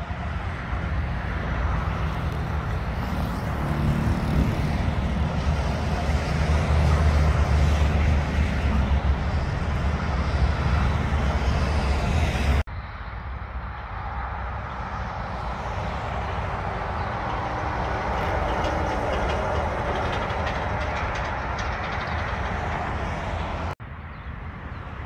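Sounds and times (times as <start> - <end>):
diesel trucks driving past: 0.0 - 23.8
tyre and road noise: 0.0 - 25.0.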